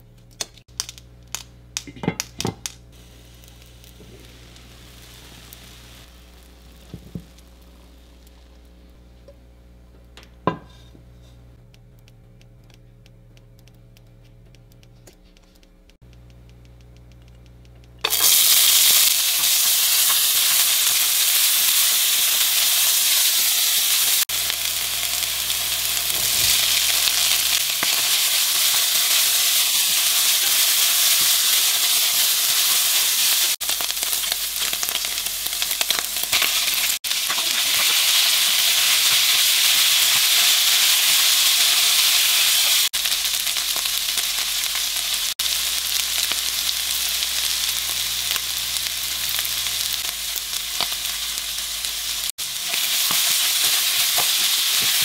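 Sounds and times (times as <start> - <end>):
food sizzling in a pan: 0.7 - 9.8, 18.0 - 55.0.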